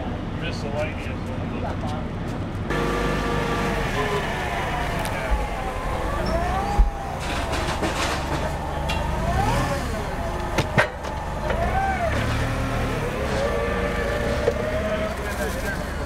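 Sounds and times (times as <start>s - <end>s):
forklift engine rumbling: 2.5s - 16.0s.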